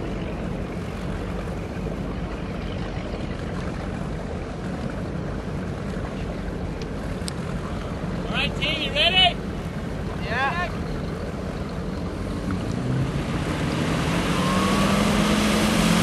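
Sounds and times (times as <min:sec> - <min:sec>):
boat motor rumbling: 0:00.0 - 0:16.0
water noise: 0:00.0 - 0:16.0
wind: 0:00.0 - 0:16.0.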